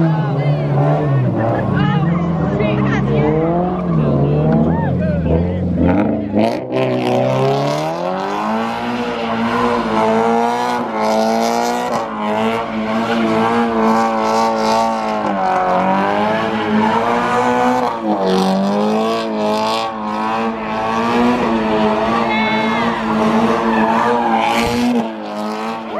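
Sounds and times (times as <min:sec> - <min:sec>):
car engine revving high: 0:00.0 - 0:25.9.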